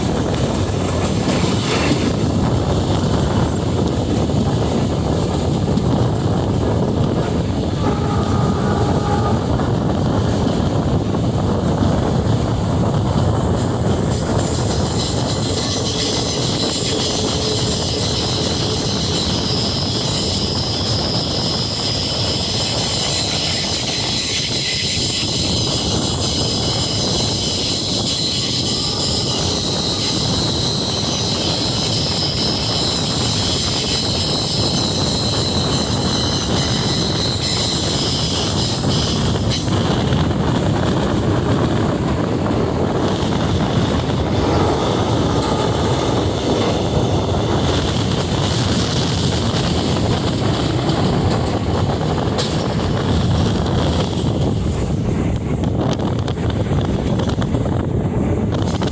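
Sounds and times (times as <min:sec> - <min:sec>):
train wheels rumbling on track: 0:00.0 - 0:58.9.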